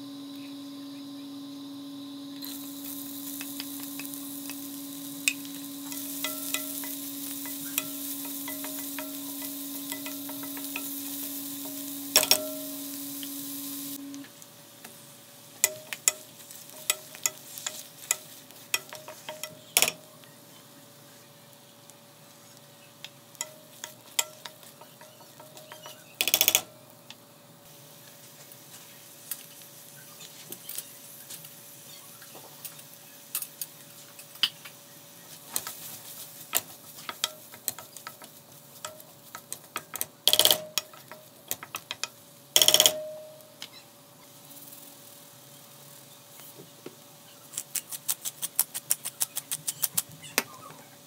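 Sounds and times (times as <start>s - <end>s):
faint steady hum: 0.0s - 47.7s
light sizzling: 0.0s - 51.0s.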